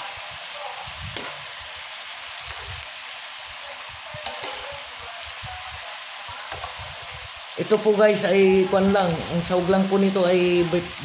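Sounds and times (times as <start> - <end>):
meat and vegetables sizzling: 0.0 - 11.0.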